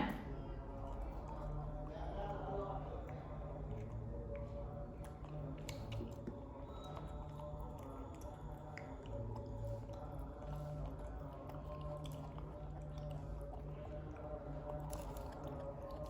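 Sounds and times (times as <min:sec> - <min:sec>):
monkey chewing: 0:03.1 - 0:16.0.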